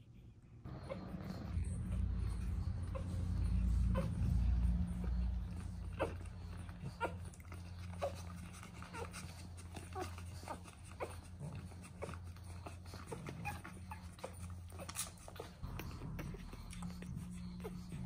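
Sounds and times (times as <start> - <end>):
puppies squeaking and whimpering: 0.7 - 18.0.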